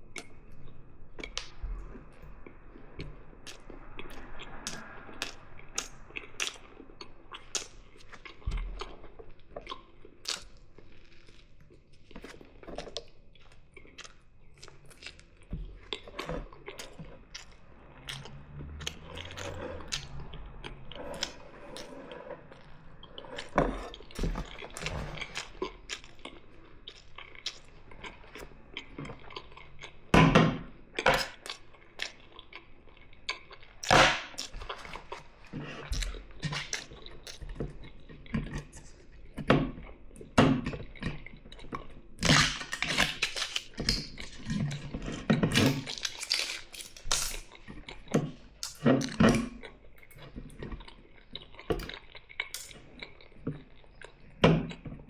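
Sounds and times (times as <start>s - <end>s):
chewing with wet mouth clicks: 3.0s - 30.1s, 31.2s - 40.0s, 45.6s - 54.8s.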